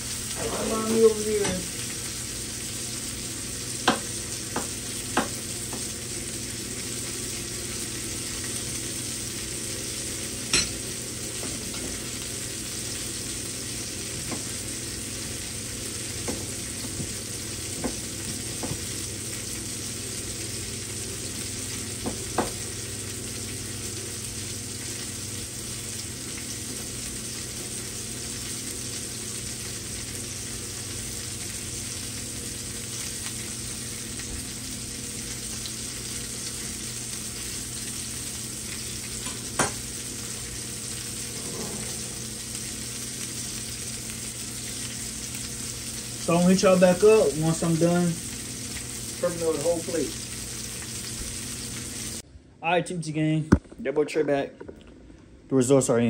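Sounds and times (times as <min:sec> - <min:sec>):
fish sizzling in a skillet: 0:00.0 - 0:52.2.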